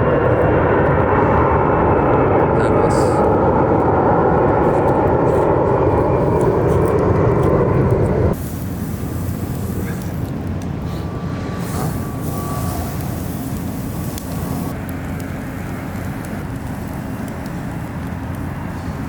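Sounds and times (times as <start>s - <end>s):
aircraft drone overhead: 0.0s - 19.0s
outdoor rumble: 0.0s - 19.0s.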